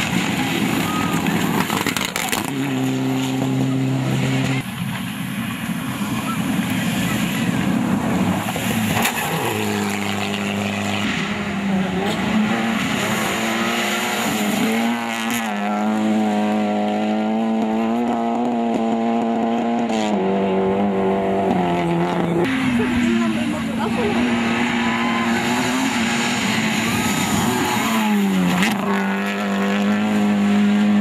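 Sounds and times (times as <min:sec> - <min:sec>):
rally car engine at high revs: 0:00.0 - 0:04.9, 0:06.0 - 0:31.0.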